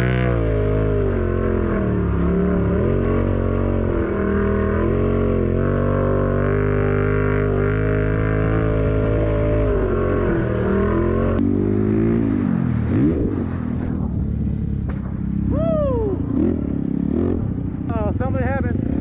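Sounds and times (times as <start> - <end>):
engine revs: 0.0 - 19.0
off-road vehicle engines running: 0.0 - 19.0.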